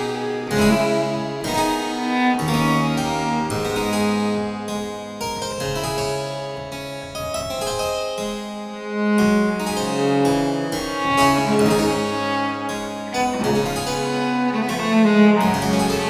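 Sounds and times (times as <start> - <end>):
cello low held notes: 0.0 - 7.5, 8.6 - 16.0
harpsichord notes: 0.0 - 16.0.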